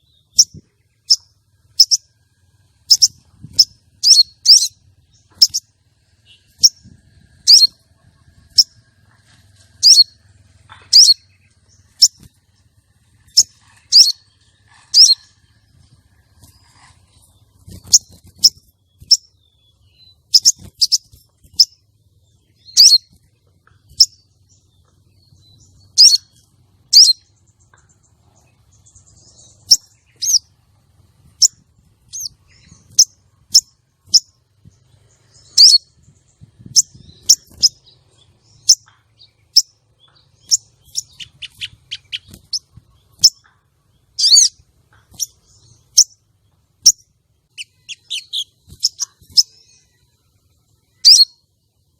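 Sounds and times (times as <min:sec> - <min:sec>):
bird chirping: 0:00.0 - 0:51.9.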